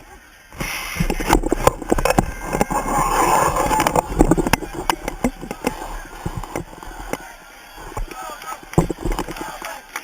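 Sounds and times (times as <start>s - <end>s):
crowd commotion: 0.0s - 10.0s.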